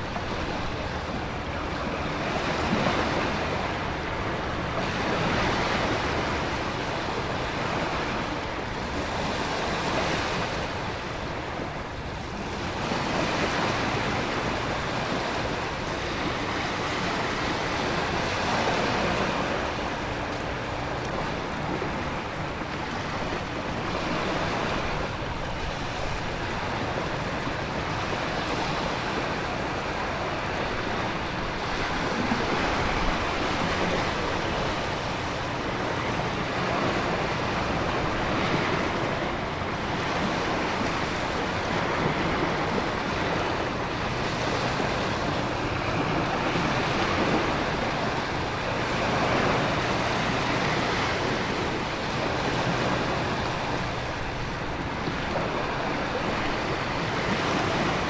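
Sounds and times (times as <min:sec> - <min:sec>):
ocean surf: 0:00.0 - 0:58.0
wind: 0:00.0 - 0:58.0.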